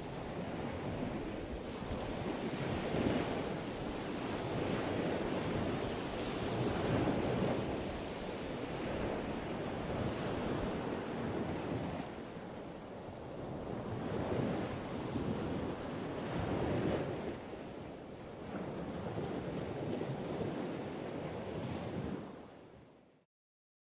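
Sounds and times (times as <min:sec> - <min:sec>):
wind gusting on microphone: 0:00.0 - 0:22.8.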